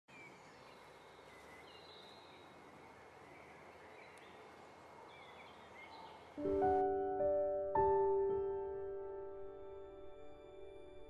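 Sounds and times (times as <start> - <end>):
faint birdsong chirps: 0.1 - 11.0
outdoor ambience hiss: 0.1 - 11.0.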